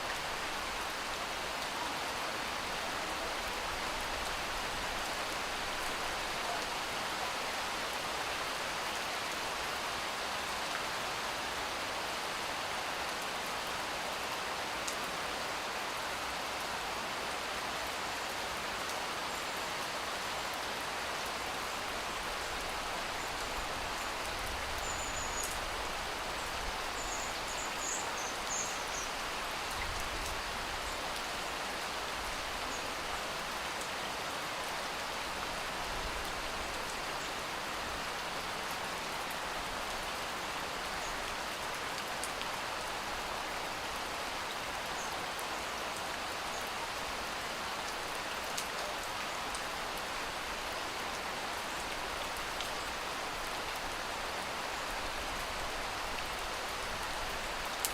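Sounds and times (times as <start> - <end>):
steady rain patter: 0.0 - 57.9.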